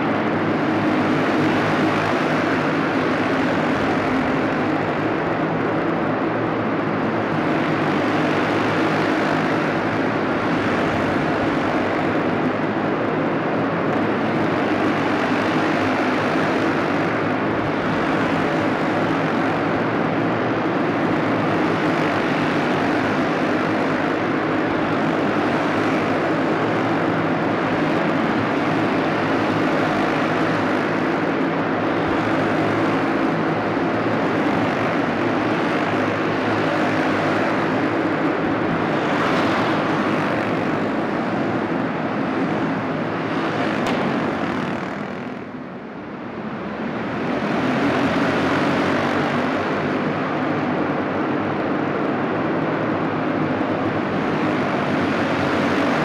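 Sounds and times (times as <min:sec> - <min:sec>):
go-kart engines buzzing: 0:00.0 - 0:56.0.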